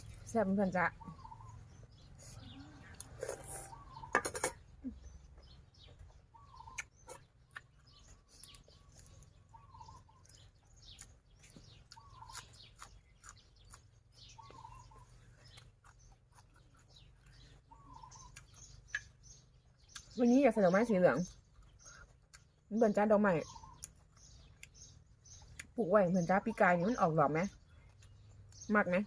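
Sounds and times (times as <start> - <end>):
high bird chirps: 0.0 - 29.0.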